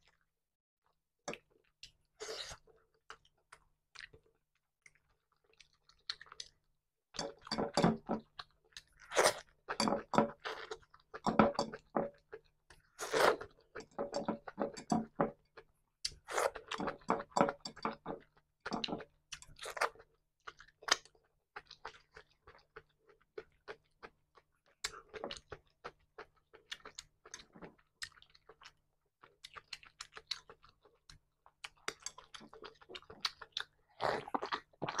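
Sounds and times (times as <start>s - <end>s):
person chewing food: 1.3s - 35.0s.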